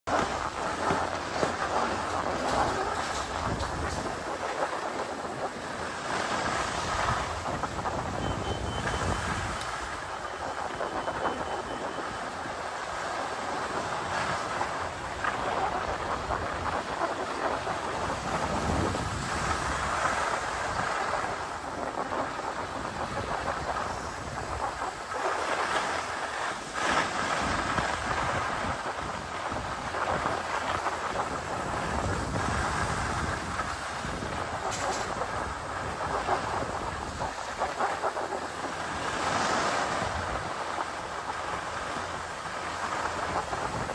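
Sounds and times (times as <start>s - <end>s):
wind rumbling on microphone: 0.0s - 43.9s
skis scraping on snow: 0.1s - 8.0s, 9.0s - 43.9s.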